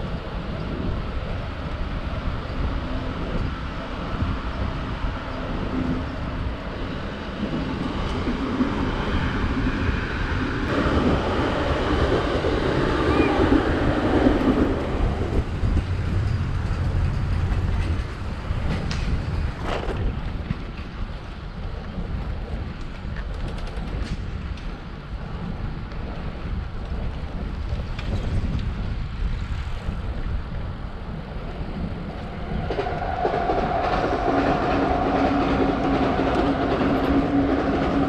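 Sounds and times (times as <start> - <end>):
train passing: 0.0 - 38.0
wind rush on microphone: 0.0 - 38.0.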